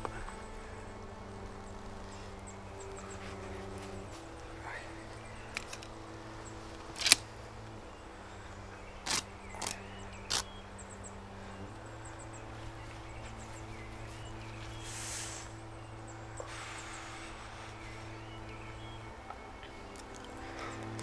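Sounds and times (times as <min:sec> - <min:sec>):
low steady drone: 0:00.0 - 0:21.0.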